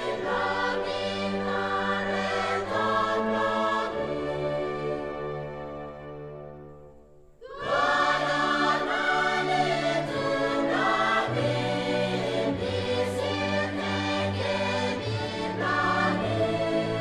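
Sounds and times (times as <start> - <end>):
choir singing: 0.0 - 6.7, 7.4 - 17.0.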